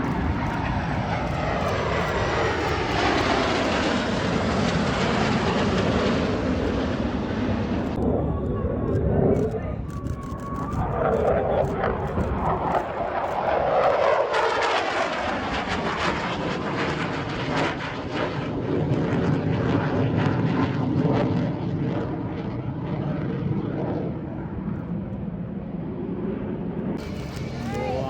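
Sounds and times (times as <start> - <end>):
fighter jet flying by: 0.0 - 28.0.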